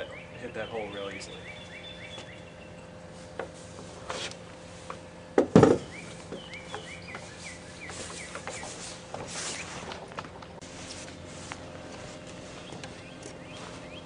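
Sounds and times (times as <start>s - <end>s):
small birds chirping: 0.0s - 4.0s, 4.6s - 14.0s.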